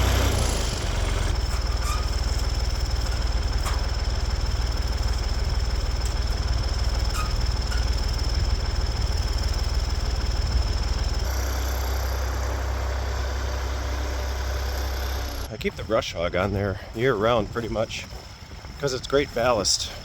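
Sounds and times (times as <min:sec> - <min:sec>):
tractor engine rumbling: 0:00.0 - 0:20.0.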